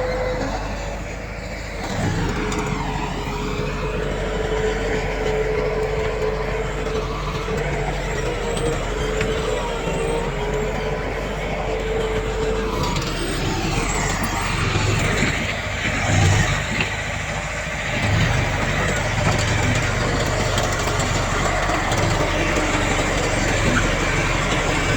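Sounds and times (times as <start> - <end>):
heavy diesel engine whining: 0.0 - 24.9.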